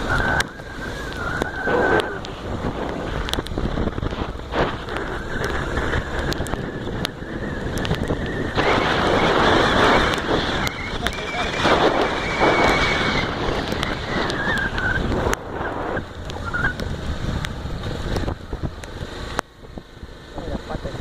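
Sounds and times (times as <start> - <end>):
motorcycle engine running: 0.0 - 21.0
rush of noise: 0.0 - 21.0
wind buffeting microphone: 0.0 - 21.0.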